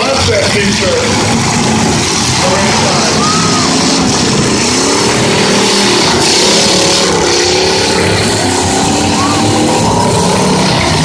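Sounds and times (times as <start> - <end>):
car engines revving loudly: 0.0 - 11.0.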